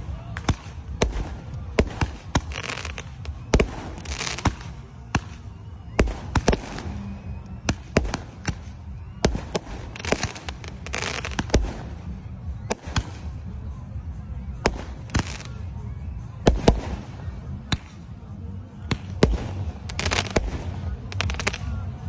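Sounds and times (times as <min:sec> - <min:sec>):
firework bangs: 0:00.0 - 0:13.4, 0:14.6 - 0:15.6, 0:16.4 - 0:18.0, 0:18.8 - 0:21.8
firework crackling: 0:00.0 - 0:13.6, 0:14.6 - 0:15.8, 0:16.4 - 0:18.1, 0:18.8 - 0:22.0.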